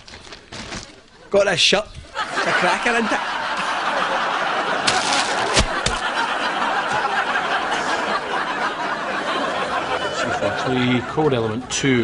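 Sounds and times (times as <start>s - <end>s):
audience laughing: 2.1s - 12.0s.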